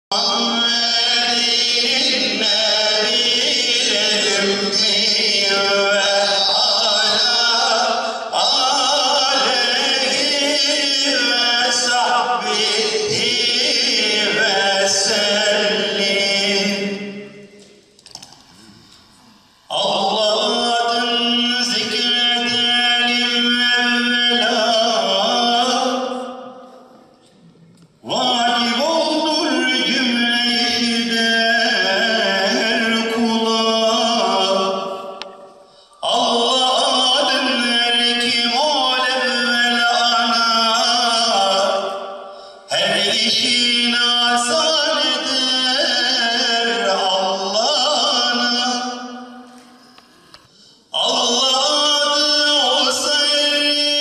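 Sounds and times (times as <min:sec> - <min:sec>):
man chanting religious recitation: 0:00.1 - 0:17.8, 0:18.5 - 0:54.0.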